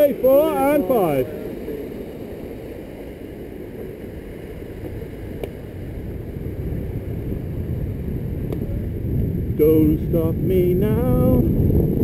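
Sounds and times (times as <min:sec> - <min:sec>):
wind buffeting microphone: 0:00.0 - 0:12.0
low rumble: 0:01.0 - 0:12.0.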